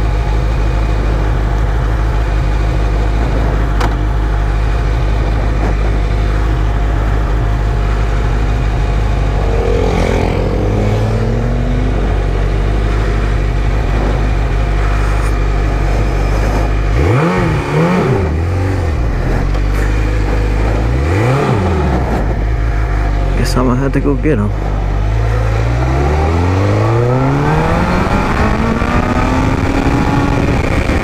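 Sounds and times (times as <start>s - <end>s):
constant rush of noise: 0.0s - 31.0s
motorcycle engine revving: 0.0s - 31.0s.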